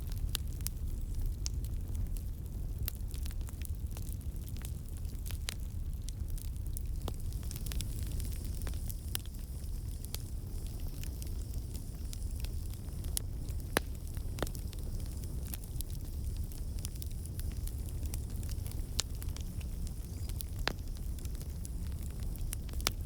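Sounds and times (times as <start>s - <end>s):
burning wood crackling and popping: 0.0s - 23.0s
low rumble of flames: 0.0s - 23.0s.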